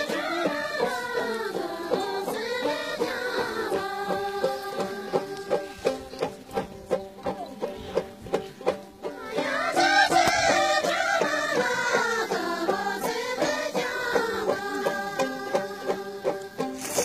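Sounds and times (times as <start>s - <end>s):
women singing: 0.0s - 7.3s, 9.0s - 17.0s
plucked string instrument: 0.0s - 17.0s.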